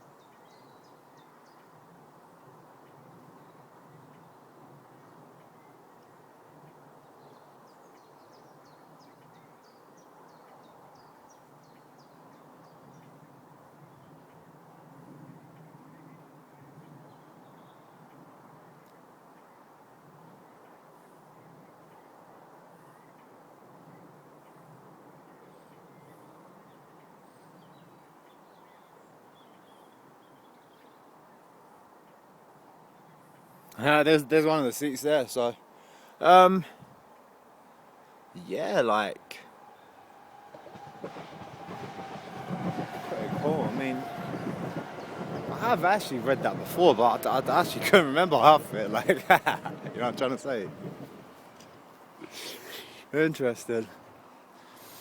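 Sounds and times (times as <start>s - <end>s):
faint outdoor hiss: 0.0s - 41.9s, 42.5s - 55.0s.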